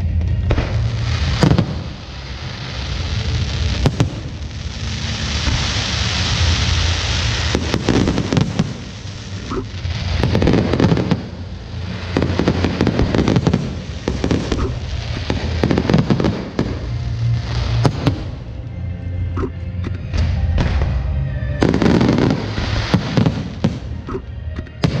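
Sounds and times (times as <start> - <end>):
fireworks bursting and crackling: 0.0 - 18.7, 20.1 - 25.0.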